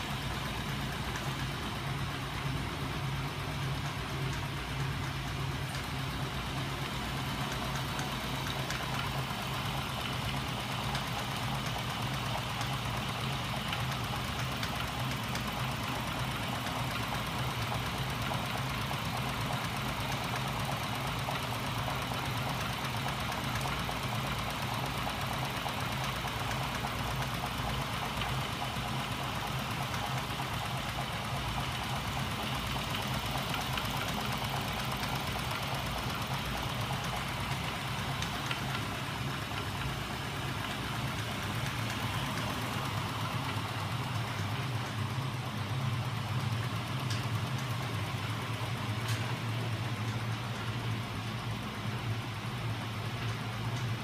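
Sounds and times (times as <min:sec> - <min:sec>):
engine mechanical hum: 0:00.0 - 0:54.0.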